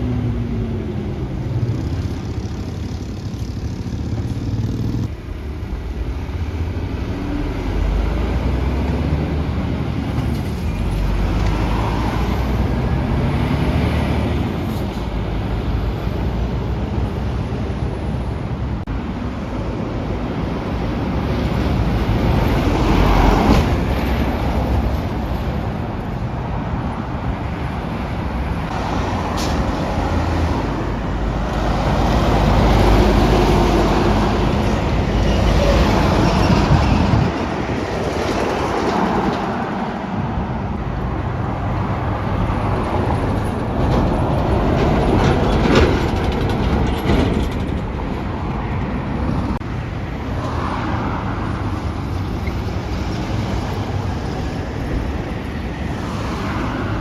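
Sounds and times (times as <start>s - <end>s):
heavy trucks passing: 0.0s - 57.0s.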